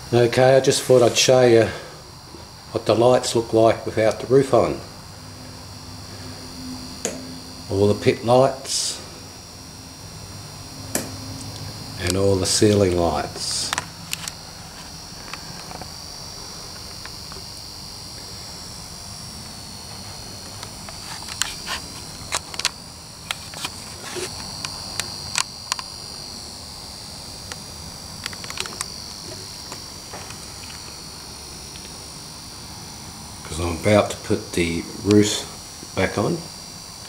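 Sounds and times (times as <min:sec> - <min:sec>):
high-pitched whine: 0:00.0 - 0:37.0.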